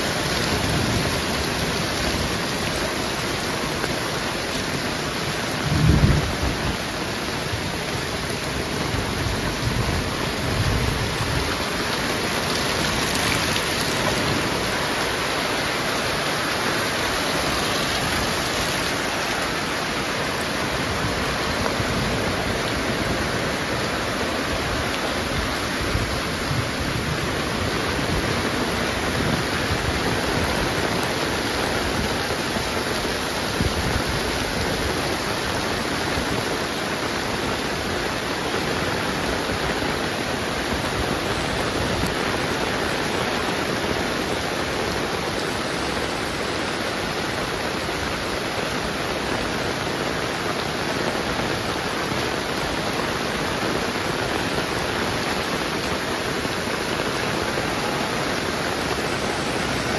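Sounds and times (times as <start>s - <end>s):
heavy rain hissing: 0.0s - 59.9s.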